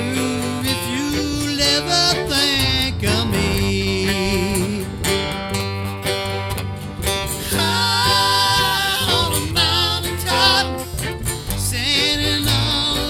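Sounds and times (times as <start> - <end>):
person singing: 0.0 - 5.4, 7.3 - 13.0
country band playing: 0.0 - 13.0.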